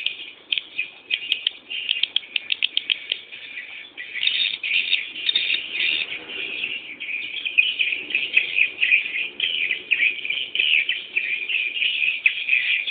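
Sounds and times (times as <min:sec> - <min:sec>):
chicks chirping: 0:00.0 - 0:12.9.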